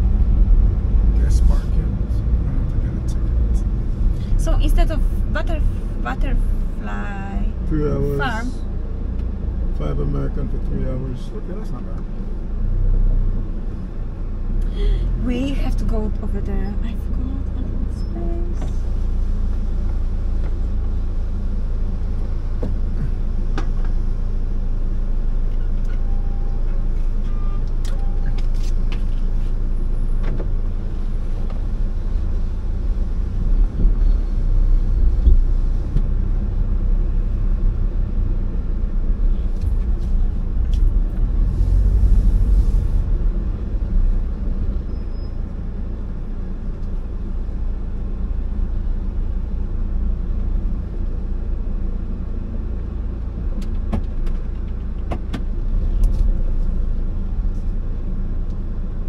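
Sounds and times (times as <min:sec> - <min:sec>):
car cabin rumble: 0:00.0 - 0:12.4, 0:13.1 - 0:59.0.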